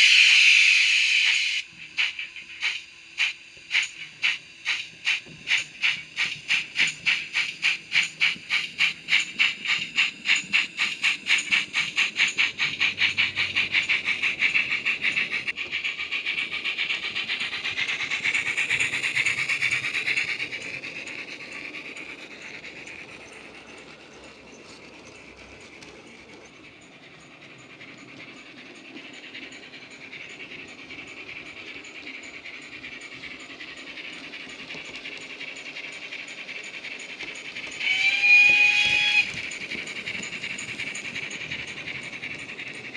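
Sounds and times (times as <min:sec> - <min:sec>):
model steam locomotive chuffs: 0:00.0 - 0:42.9.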